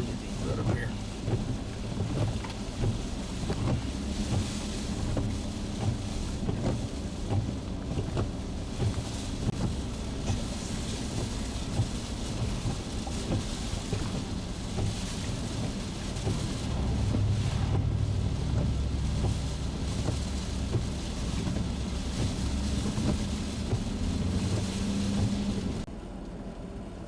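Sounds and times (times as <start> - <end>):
wind buffeting microphone: 0.0 - 25.9
surf and rain hiss: 0.0 - 27.0.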